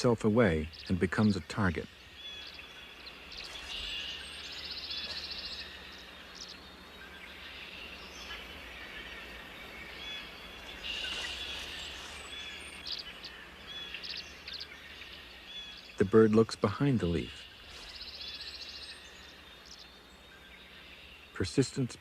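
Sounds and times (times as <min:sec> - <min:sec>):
background hiss: 0:00.0 - 0:22.0
bird chirps: 0:00.0 - 0:22.0.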